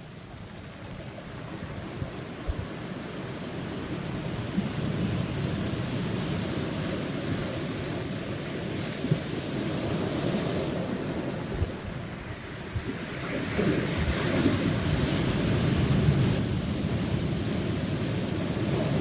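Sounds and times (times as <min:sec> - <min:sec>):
waves washing onto rocks: 0:00.0 - 0:19.0
wind buffeting microphone: 0:00.2 - 0:19.0.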